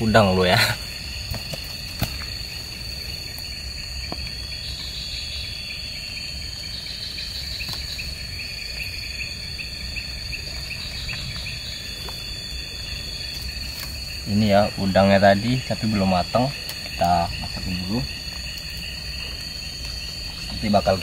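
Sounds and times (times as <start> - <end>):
insect chirping in quick pulses: 0.0 - 21.0
insect high-pitched trill: 0.0 - 21.0.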